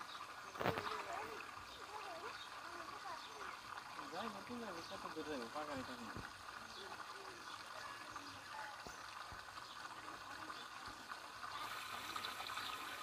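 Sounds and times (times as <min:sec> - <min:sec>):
faint trickling water: 0:00.0 - 0:13.0.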